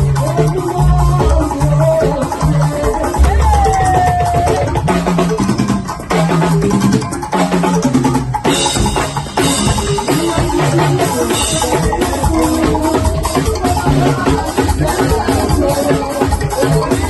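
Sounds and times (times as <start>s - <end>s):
band music with drum kit: 0.0s - 17.0s
bass and melody notes: 0.0s - 17.0s.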